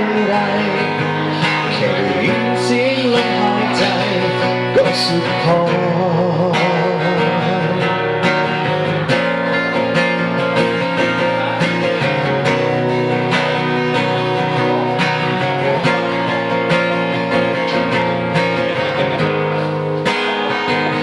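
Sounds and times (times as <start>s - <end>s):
strummed guitar chords: 0.0s - 21.0s.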